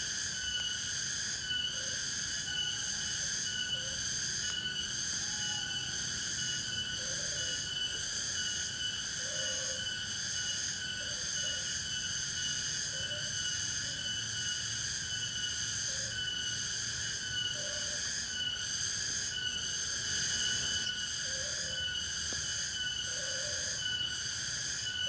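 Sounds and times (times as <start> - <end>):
insects shrilling: 0.0 - 25.0.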